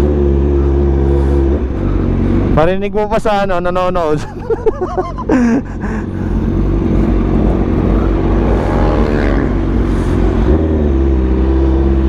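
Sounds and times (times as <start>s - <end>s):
motorcycle engine accelerating: 0.0s - 3.0s, 4.6s - 12.0s.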